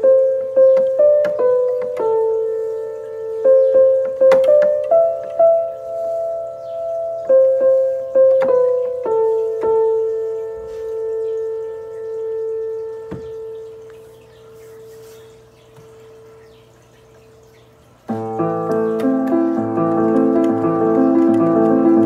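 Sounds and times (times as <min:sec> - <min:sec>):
electronic keyboard notes and chord: 0:00.0 - 0:15.5, 0:18.1 - 0:22.0.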